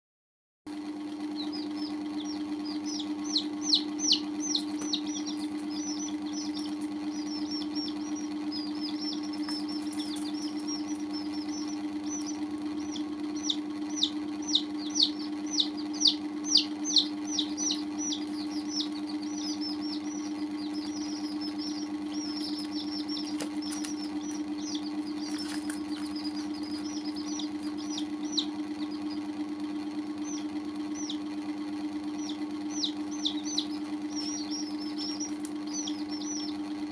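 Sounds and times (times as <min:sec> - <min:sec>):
chicks peeping: 0:00.7 - 0:36.9
steady low hum: 0:00.7 - 0:36.9.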